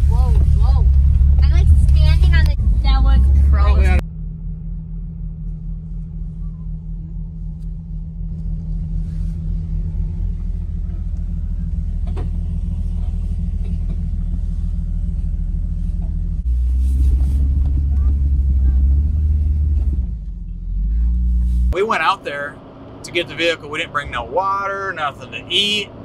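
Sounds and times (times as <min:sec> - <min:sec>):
vehicle engine low drone: 0:00.0 - 0:26.0.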